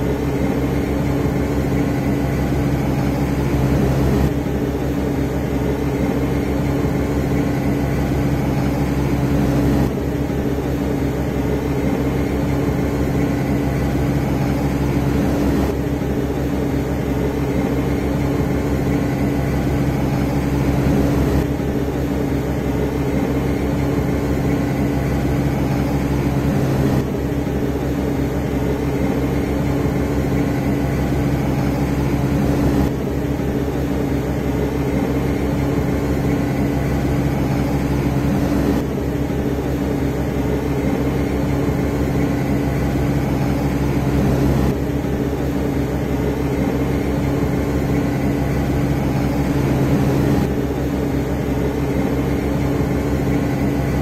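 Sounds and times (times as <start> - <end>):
machinery droning: 0.0 - 54.0.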